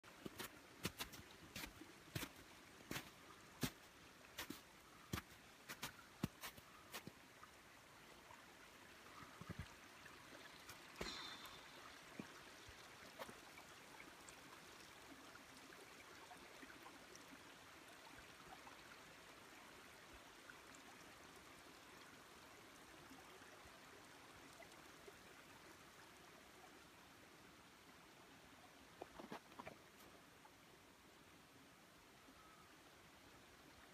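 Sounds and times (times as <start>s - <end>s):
creek trickling: 0.0s - 33.9s.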